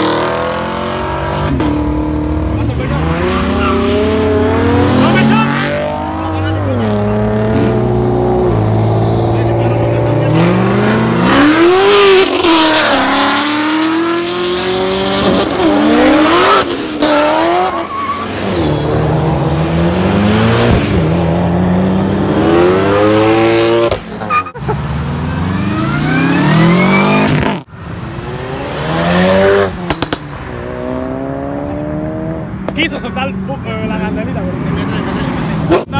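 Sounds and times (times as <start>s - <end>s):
cars accelerating hard: 0.0s - 35.9s.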